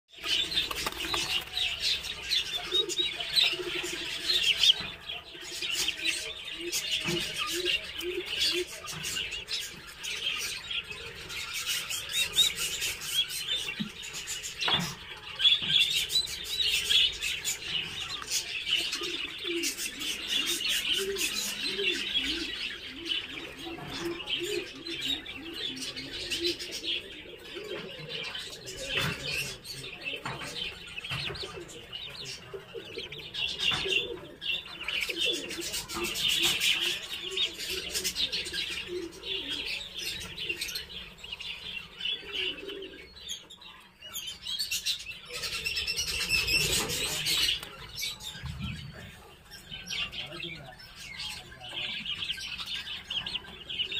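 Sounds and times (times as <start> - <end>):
turkey poults peeping: 0.2 - 53.9.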